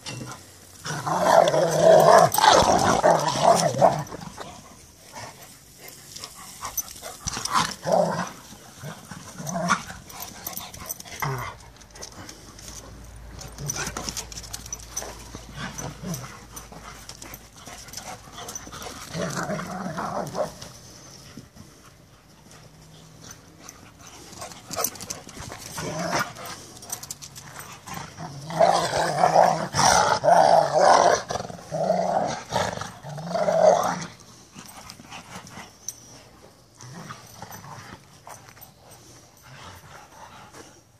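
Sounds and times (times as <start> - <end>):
dogs play-growling: 0.0 - 40.9.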